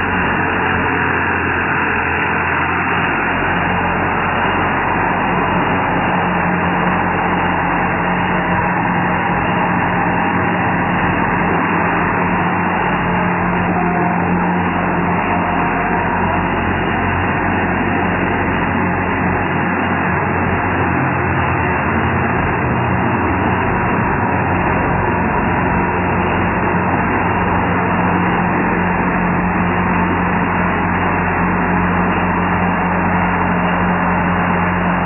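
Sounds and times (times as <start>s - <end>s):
tractor engine driving past: 0.0s - 35.0s.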